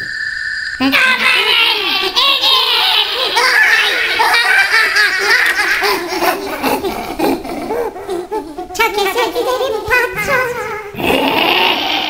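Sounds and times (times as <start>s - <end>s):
high-pitched warbling cartoon voice: 0.8s - 12.0s.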